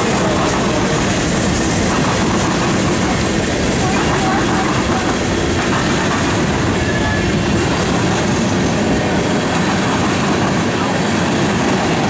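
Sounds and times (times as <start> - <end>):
steel train wheels on rails: 0.0 - 12.0.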